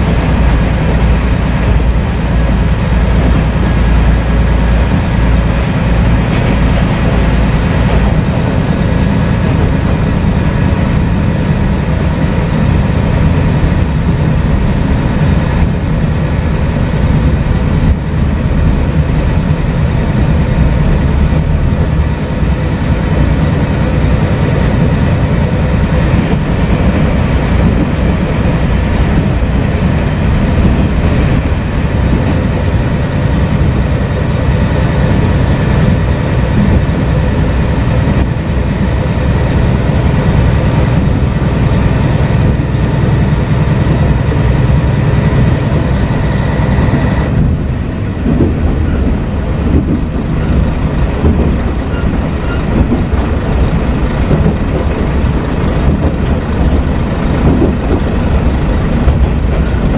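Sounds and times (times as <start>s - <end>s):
railcar engine and wheels rumbling: 0.0s - 59.9s.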